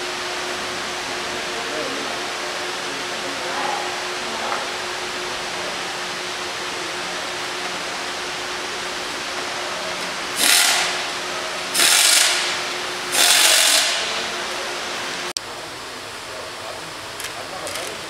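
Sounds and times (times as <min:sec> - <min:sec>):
workshop hum: 0:00.0 - 0:18.0.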